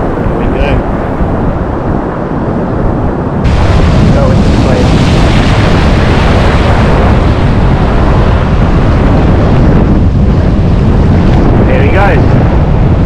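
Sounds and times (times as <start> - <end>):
waves rushing over camera: 0.0 - 13.0.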